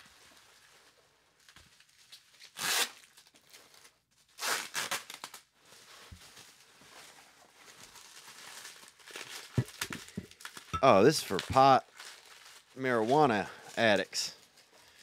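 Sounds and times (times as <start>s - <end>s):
plastic wrapping crinkling: 0.0s - 15.0s
plastic wrapping ripping: 1.4s - 6.8s, 7.6s - 14.7s.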